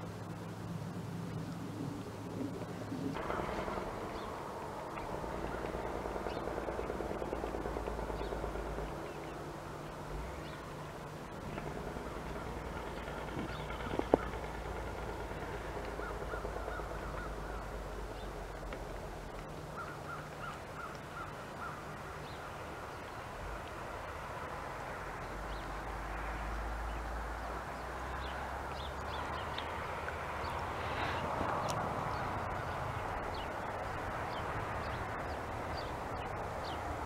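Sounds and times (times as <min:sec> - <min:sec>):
steady low rumble: 0:00.0 - 0:37.0
bird calling: 0:01.2 - 0:37.0.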